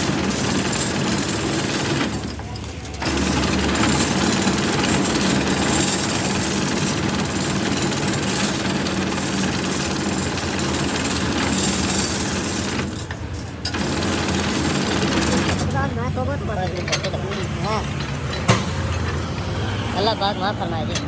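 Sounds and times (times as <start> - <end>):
machine running with rattle: 0.0 - 16.0, 16.6 - 19.4.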